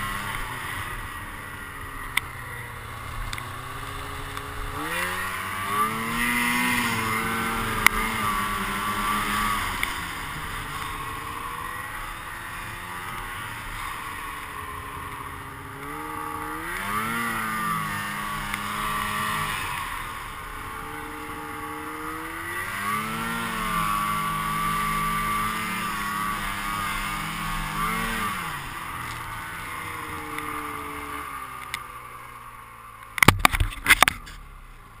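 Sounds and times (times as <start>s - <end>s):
snowmobile engine revving: 0.0s - 32.5s.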